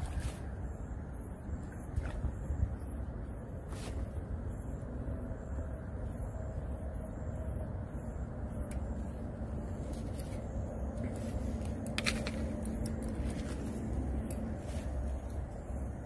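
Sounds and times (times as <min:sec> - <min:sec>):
faint steady hum: 0:00.0 - 0:16.0
low outdoor rumble: 0:00.0 - 0:16.0.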